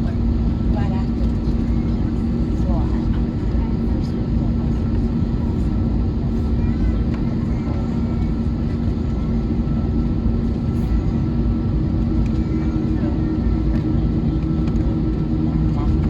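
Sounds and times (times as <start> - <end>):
airplane cabin hum: 0.0 - 16.0.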